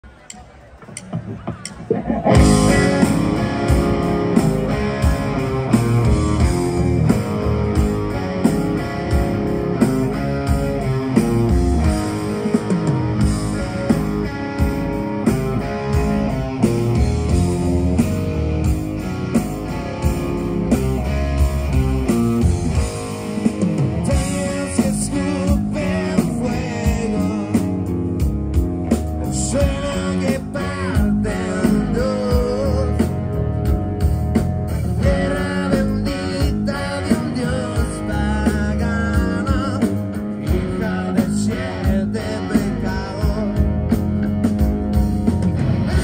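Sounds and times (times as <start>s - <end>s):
bass guitar: 0.0s - 46.0s
distorted electric guitars: 0.0s - 46.0s
drum kit beat: 0.3s - 46.0s.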